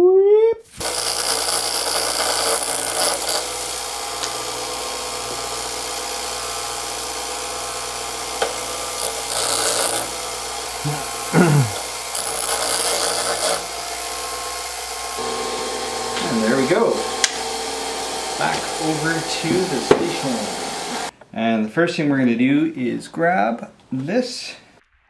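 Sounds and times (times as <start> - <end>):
bench grinder motor whine: 0.7 - 21.1
steel rods grinding against wheel: 0.7 - 21.1.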